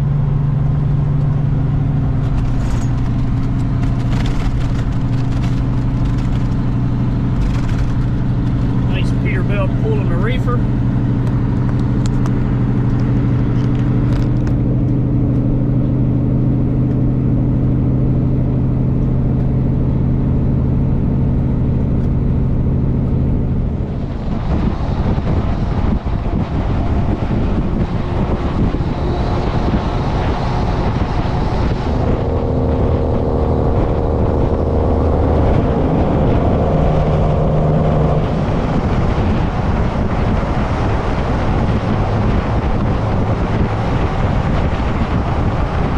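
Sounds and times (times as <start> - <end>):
road noise: 0.0 - 45.9
truck engine hum: 0.0 - 45.9.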